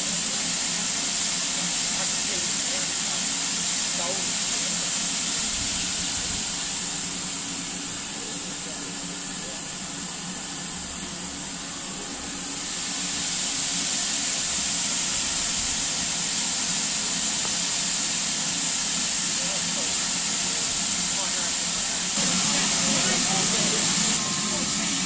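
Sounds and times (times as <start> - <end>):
steam hissing from locomotive: 0.0 - 25.0.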